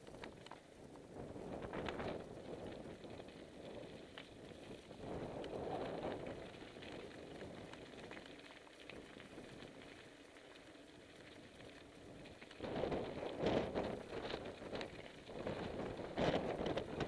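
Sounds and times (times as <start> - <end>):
bicycle tyres crunching over gravel: 0.0 - 17.0
bike rattles and clicks: 0.0 - 17.0.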